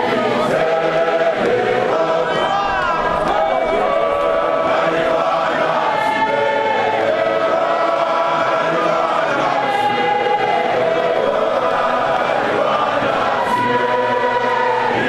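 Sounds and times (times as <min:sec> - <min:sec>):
men singing a hymn: 0:00.0 - 0:15.0.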